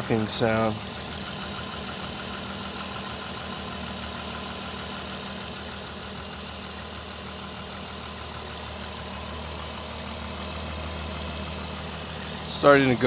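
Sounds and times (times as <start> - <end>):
car engine idling: 0.0 - 13.0
engine knocking: 0.0 - 13.0.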